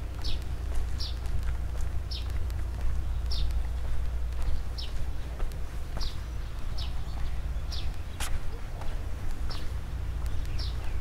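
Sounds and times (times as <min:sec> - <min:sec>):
bird chirping: 0:00.1 - 0:01.3, 0:02.0 - 0:11.0.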